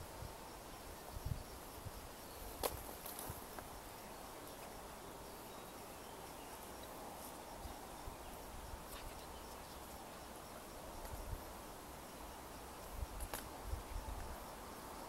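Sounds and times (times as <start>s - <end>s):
faint insect sounds: 0.0s - 15.0s
steady hiss: 0.0s - 15.0s.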